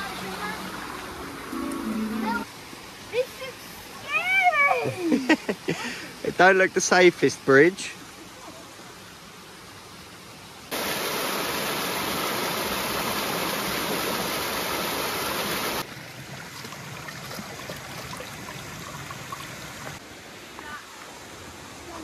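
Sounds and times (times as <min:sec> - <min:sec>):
quiet running water: 0:00.0 - 0:22.0
water gushing over rocks: 0:00.0 - 0:22.0.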